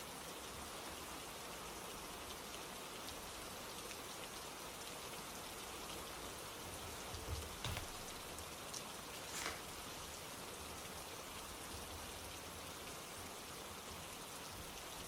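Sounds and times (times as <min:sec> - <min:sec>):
gentle rain falling: 0:00.0 - 0:15.0.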